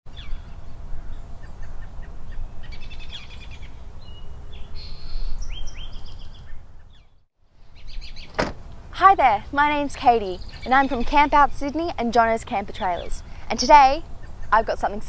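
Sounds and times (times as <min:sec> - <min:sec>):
birds calling and chirping: 0:00.1 - 0:08.9, 0:09.6 - 0:15.0.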